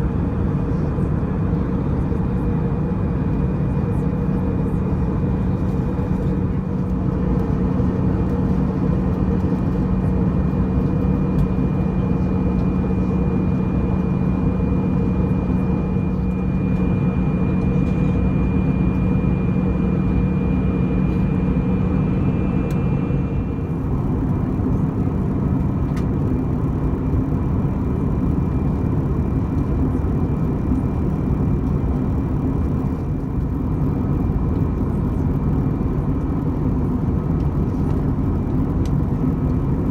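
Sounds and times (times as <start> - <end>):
aircraft cabin engine hum: 0.0 - 39.9.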